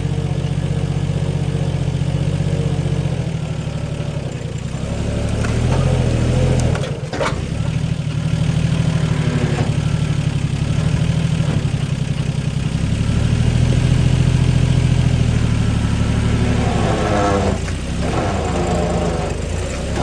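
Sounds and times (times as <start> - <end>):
old engine idling: 0.0 - 20.0.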